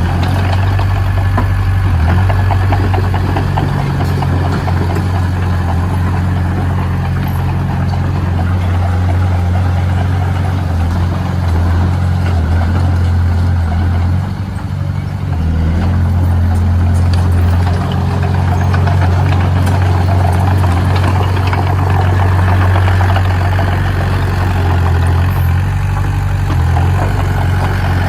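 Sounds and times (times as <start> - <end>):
heavy machine engine running: 0.0 - 28.0.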